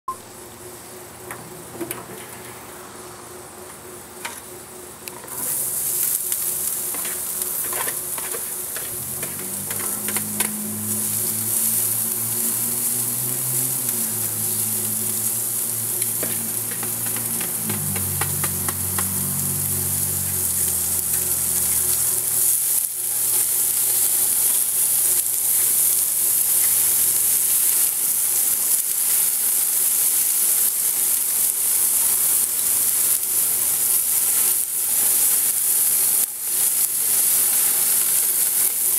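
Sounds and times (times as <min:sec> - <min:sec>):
vegetables sizzling in a pan: 0:00.1 - 0:38.9.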